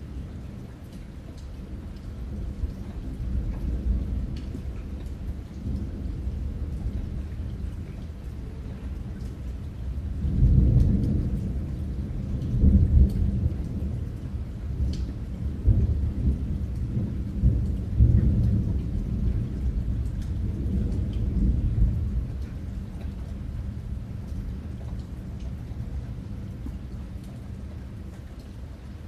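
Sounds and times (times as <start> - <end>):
steady rain: 0.0 - 29.0
rolling thunder: 2.3 - 27.8.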